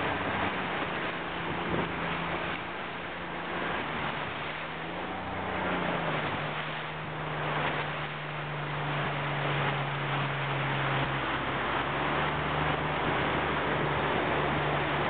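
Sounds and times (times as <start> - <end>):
motorboat engine running: 0.0 - 15.0
wind and water rushing: 0.0 - 15.0.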